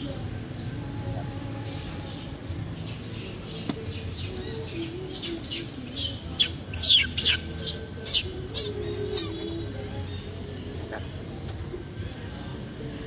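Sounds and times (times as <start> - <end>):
bird chirping: 0.0 - 11.6.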